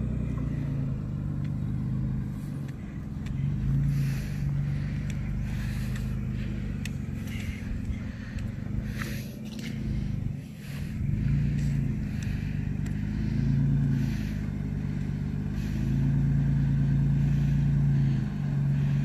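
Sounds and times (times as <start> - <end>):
truck engine at low revs: 0.0 - 19.0.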